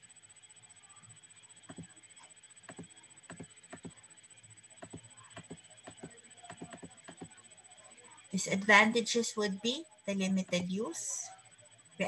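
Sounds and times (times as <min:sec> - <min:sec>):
thin high-pitched whine: 0:00.0 - 0:12.0.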